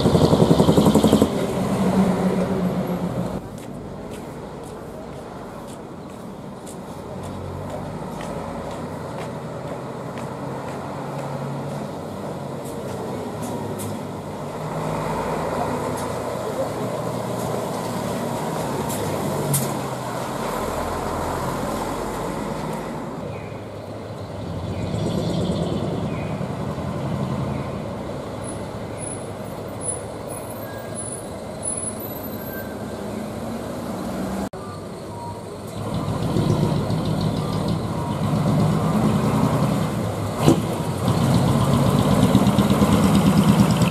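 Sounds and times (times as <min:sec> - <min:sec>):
diesel truck engines: 0:00.0 - 0:43.9
street traffic noise: 0:00.0 - 0:43.9.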